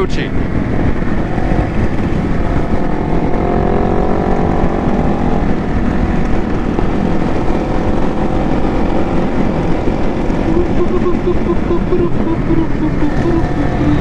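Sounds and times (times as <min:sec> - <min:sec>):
dense low rumble: 0:00.0 - 0:14.0
motorcycle engines running: 0:00.0 - 0:14.0
approaching motorcycle engine: 0:00.5 - 0:14.0.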